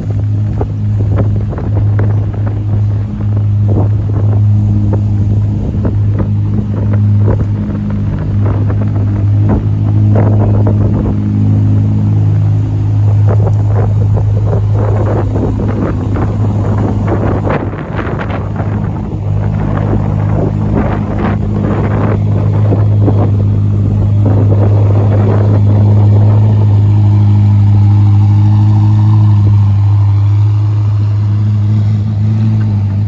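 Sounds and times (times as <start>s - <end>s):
car engine deep hum: 0.0s - 33.0s.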